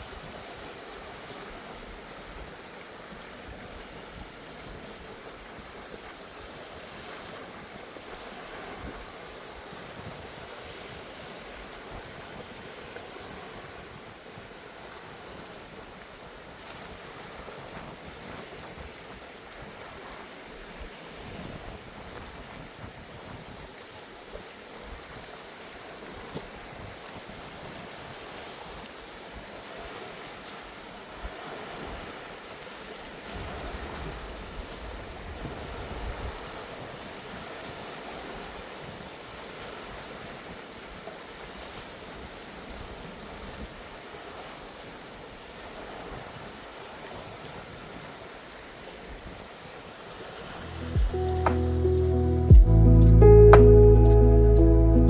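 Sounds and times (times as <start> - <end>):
sea waves washing in: 0.0 - 55.0.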